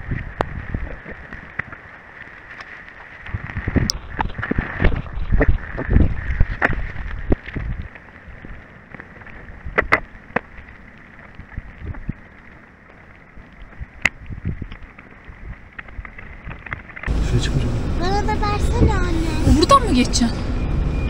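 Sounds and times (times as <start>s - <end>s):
rain falling: 0.0s - 20.3s.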